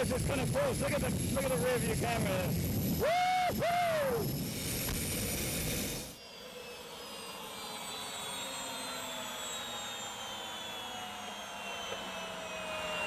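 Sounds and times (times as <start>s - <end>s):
gas turbine whining: 0.0s - 13.0s.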